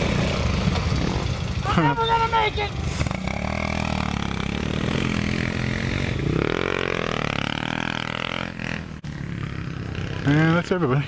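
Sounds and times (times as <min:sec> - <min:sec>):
mini bike engine revving: 0:00.0 - 0:10.7.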